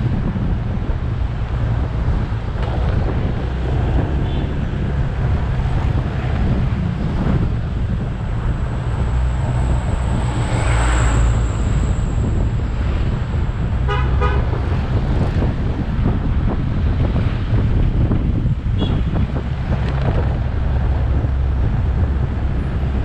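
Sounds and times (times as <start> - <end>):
road noise: 0.0 - 23.0
wind on microphone: 0.0 - 23.0.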